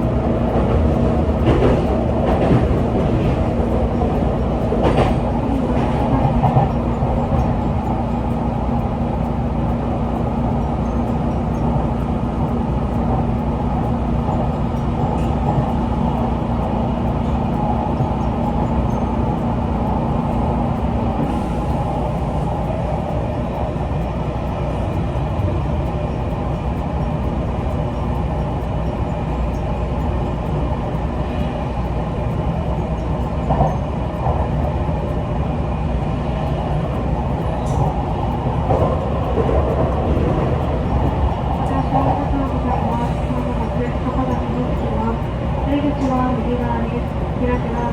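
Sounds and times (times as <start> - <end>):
train wheels rumbling: 0.0 - 47.9.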